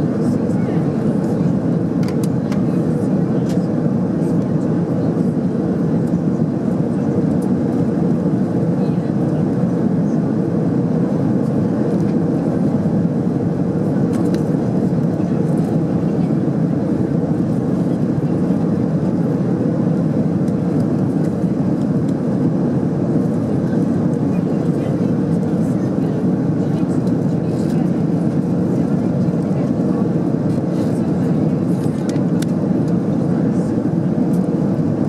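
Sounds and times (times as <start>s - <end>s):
airplane cabin jet engine rush: 0.0s - 35.0s.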